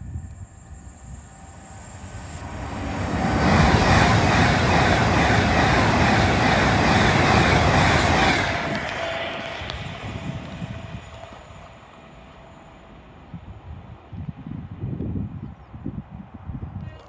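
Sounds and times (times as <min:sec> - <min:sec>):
wheels rushing on rail: 0:00.0 - 0:15.4
express train passing at speed: 0:00.0 - 0:16.8.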